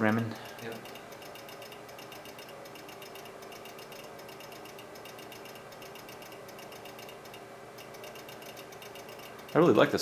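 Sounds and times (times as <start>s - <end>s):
machine humming: 0.0s - 10.0s
fast even ticking: 0.3s - 10.0s.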